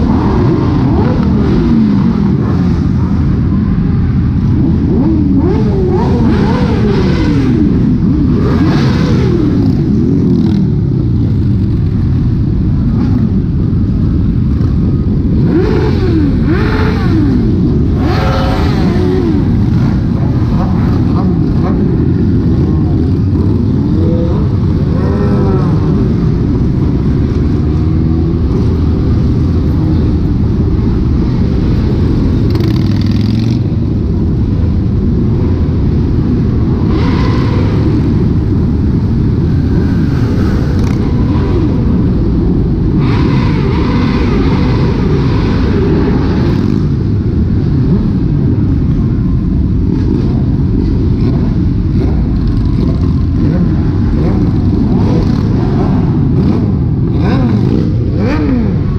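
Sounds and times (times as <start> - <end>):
motorcycle engines revving: 0.0 - 58.9.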